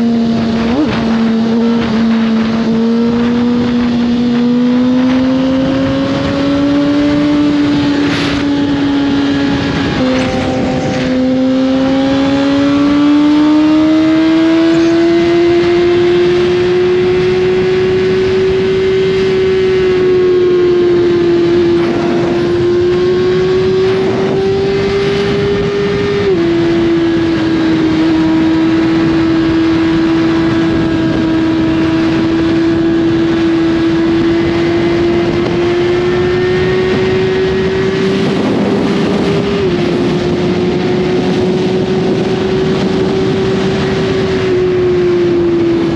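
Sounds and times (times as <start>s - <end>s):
motorcycle engine running hard: 0.0s - 45.9s.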